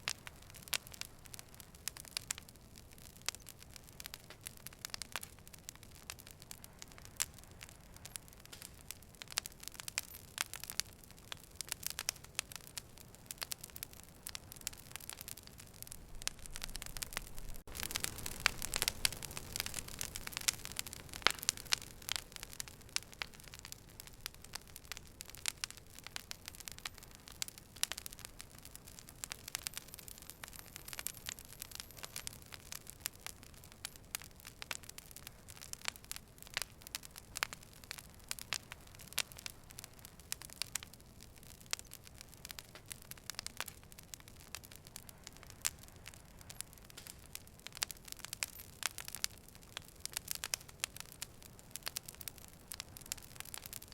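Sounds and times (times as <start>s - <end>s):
fire crackling: 0.0s - 53.9s.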